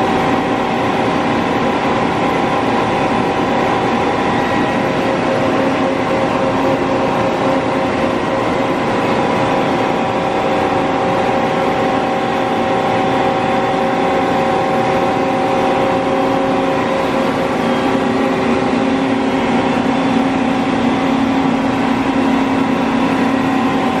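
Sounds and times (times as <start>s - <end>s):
boring mill mechanical hum: 0.0s - 24.0s
machine whining tones: 0.1s - 24.0s.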